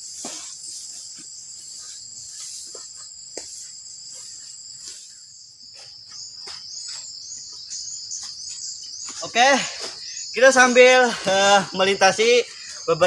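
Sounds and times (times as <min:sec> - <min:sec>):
crickets and insects chorus: 0:00.0 - 0:13.0
footsteps on trail: 0:00.0 - 0:13.0.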